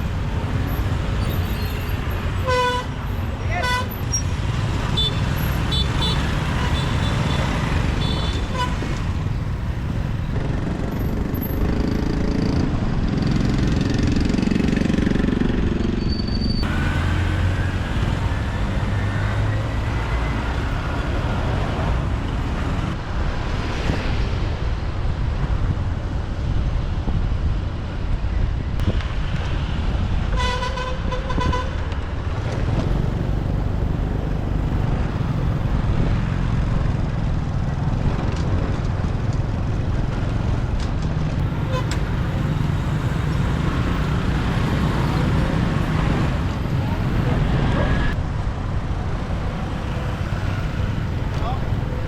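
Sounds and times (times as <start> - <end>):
traffic rumble and road noise: 0.0 - 52.0.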